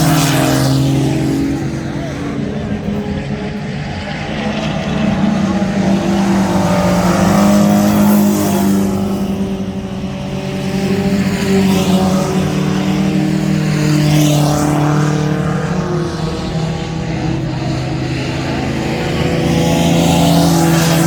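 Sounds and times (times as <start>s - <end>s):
racing truck engines: 0.0s - 21.0s.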